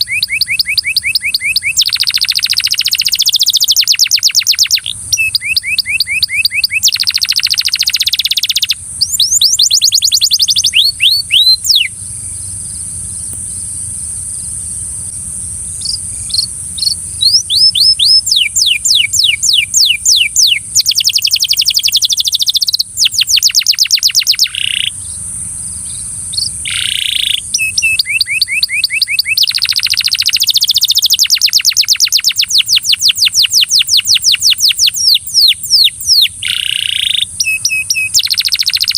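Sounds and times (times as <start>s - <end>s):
canary singing trills: 0.0s - 14.7s, 15.6s - 38.9s.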